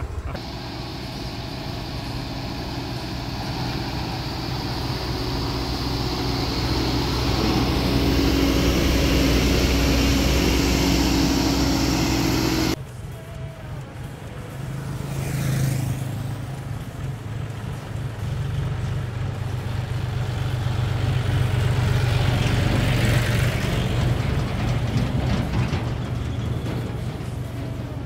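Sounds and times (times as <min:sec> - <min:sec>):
tractor diesel engine passing: 0:00.0 - 0:28.0.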